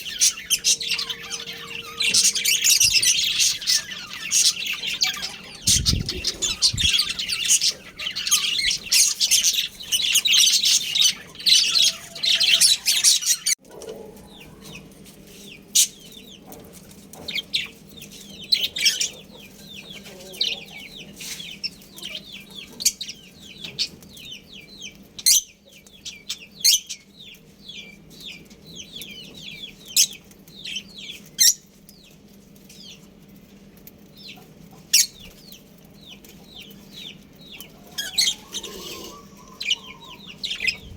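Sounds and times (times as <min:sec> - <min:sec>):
budgerigars chirping and chattering: 0:00.0 - 0:13.6, 0:17.2 - 0:33.1, 0:34.2 - 0:40.9.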